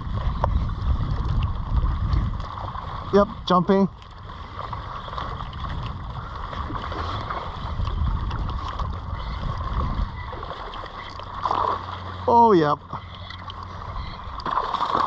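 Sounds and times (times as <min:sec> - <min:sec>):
low rumble: 0:00.0 - 0:15.0
water lapping against hull: 0:00.0 - 0:15.0.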